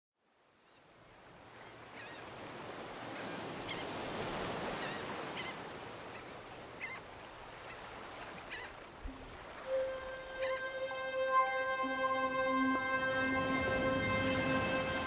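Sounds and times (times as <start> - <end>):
surf washing: 1.2 - 15.0.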